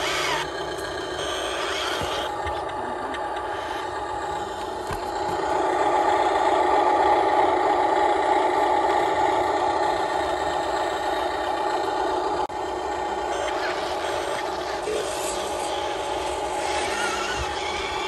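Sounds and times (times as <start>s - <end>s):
radio-controlled truck running: 0.0s - 18.0s.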